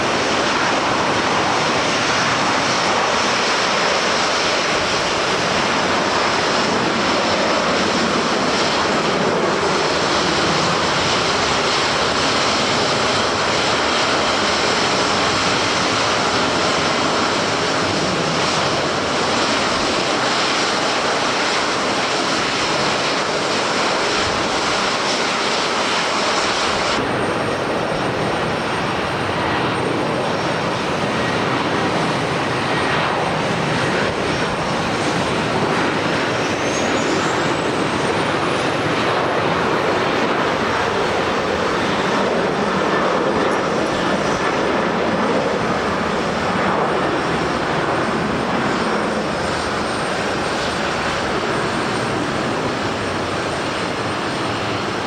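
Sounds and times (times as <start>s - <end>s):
gusty wind: 0.0s - 55.0s
jet engines running: 0.0s - 55.0s.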